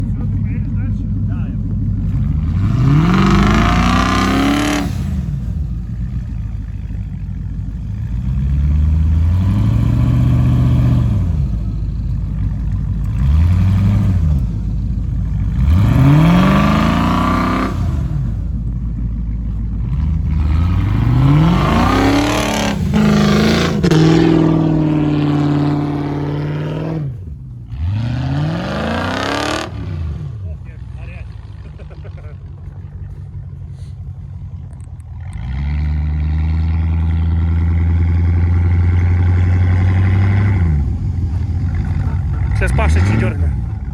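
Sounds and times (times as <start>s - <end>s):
engine revving: 0.0s - 43.9s.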